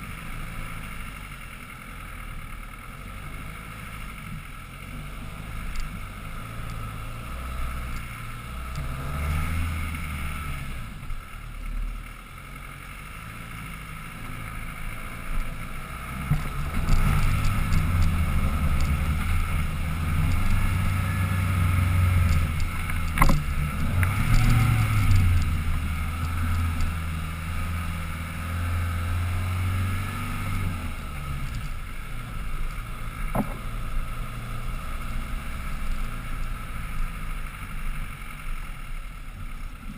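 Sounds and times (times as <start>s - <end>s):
vehicle engine climbing: 0.0s - 39.9s.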